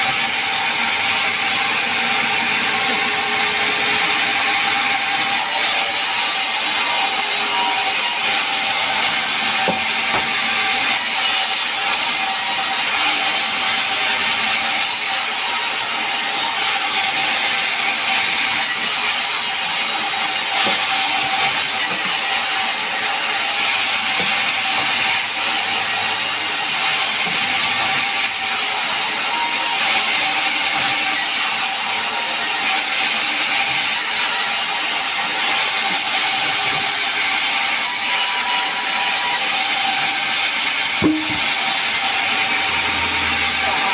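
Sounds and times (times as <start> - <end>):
sawmill saw cutting timber: 0.0 - 43.9.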